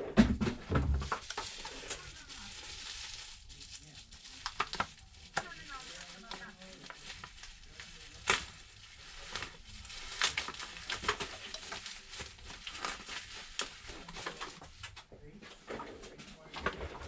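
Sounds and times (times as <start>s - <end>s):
packaging crinkling: 0.8s - 15.0s.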